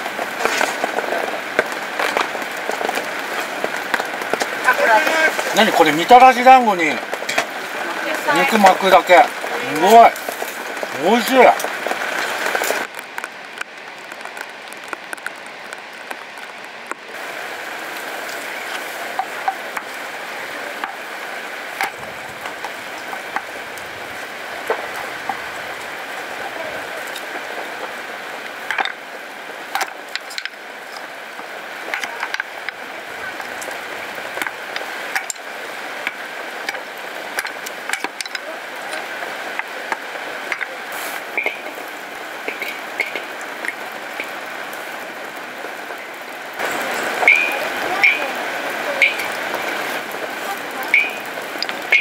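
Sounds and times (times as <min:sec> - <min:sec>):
steady hiss: 0:00.0 - 0:52.0.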